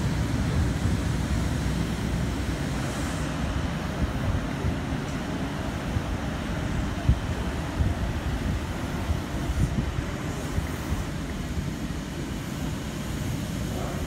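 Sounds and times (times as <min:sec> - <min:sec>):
rail and station rumble: 0:00.0 - 0:14.0
wind buffeting microphone: 0:00.0 - 0:14.0.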